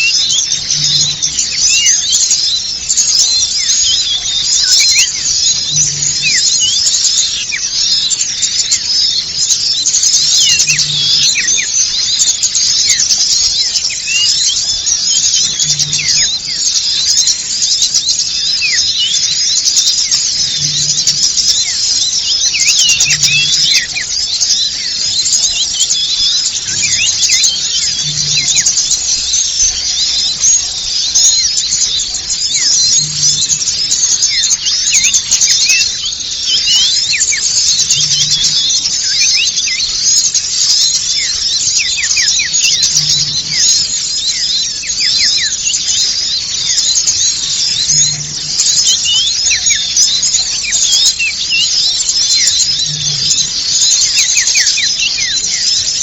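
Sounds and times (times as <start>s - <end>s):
chorus of songbirds chirping: 0.0s - 56.0s.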